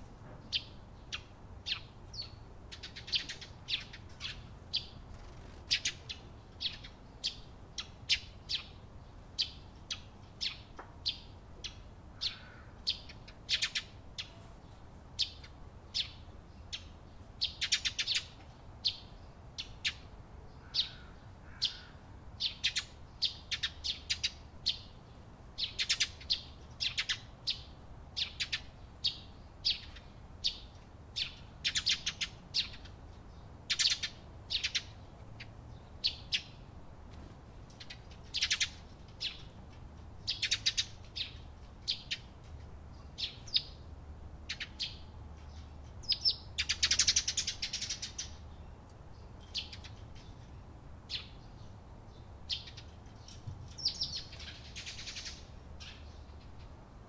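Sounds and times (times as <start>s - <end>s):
sparrows chirping: 0.0s - 36.7s, 37.5s - 56.8s.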